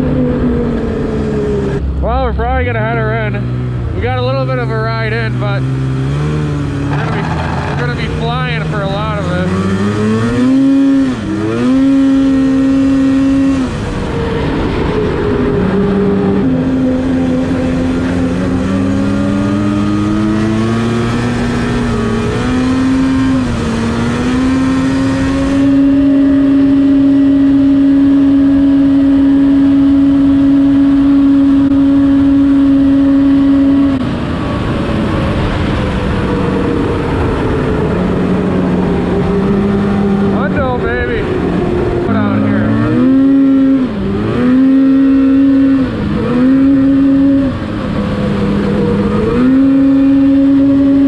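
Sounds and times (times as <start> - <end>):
snowmobile engine running: 0.0 - 51.0.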